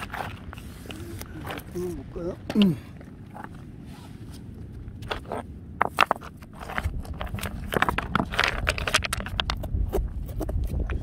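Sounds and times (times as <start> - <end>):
pebbles clicking and scraping: 0.0 - 3.6, 4.8 - 11.0.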